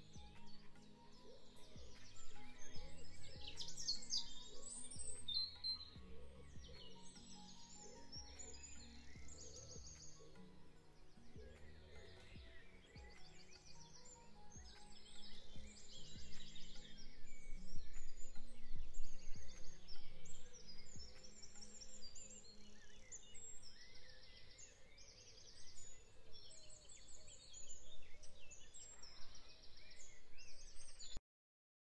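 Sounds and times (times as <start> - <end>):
background music: 0.0 - 31.2.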